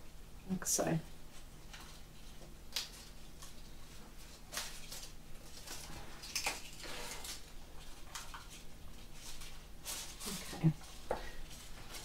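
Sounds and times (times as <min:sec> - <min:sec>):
flower stems rustling: 0:01.3 - 0:12.0.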